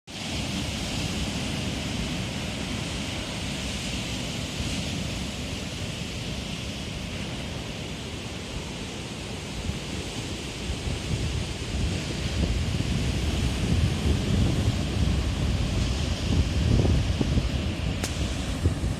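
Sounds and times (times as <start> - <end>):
surf washing onto shore: 0.1 - 18.9
wind buffeting microphone: 0.2 - 18.9.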